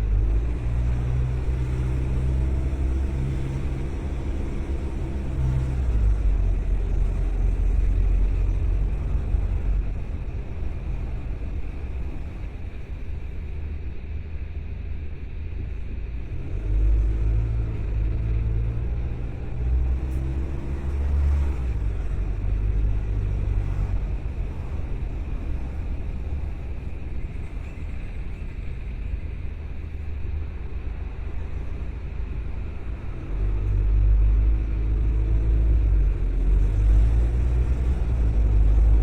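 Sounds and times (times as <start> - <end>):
car engine rumble: 0.0 - 39.0
road noise: 0.0 - 39.0.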